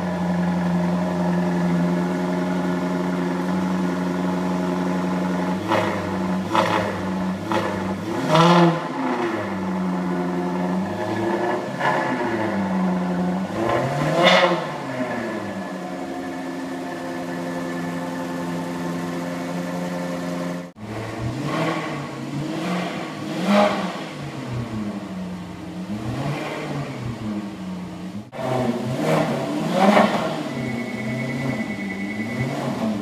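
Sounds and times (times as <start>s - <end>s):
car engine idling: 0.0s - 33.0s
car engine revving: 0.0s - 33.0s.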